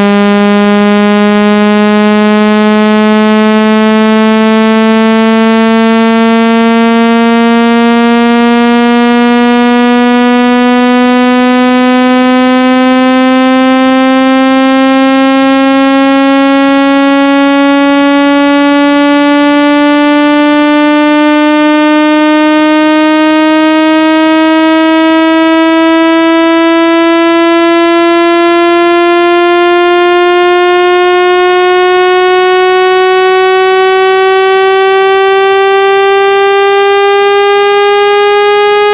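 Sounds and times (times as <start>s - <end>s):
synthesized buzzing tone rising: 0.0s - 38.9s.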